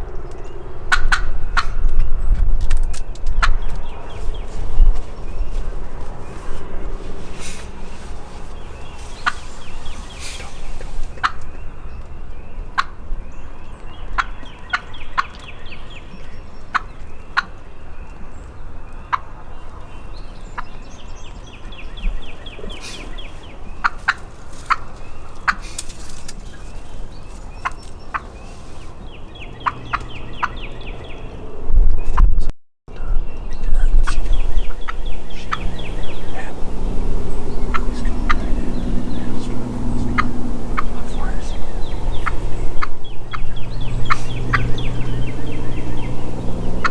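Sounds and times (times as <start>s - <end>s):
turkey gobbling: 0.8s - 1.8s, 3.2s - 31.6s, 37.7s - 46.9s.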